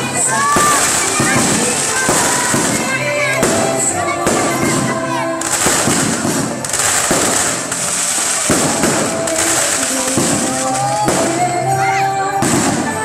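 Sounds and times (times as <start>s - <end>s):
fireworks bangs: 0.0s - 11.8s, 12.4s - 13.0s
crackle of bursting fireworks: 0.0s - 13.0s.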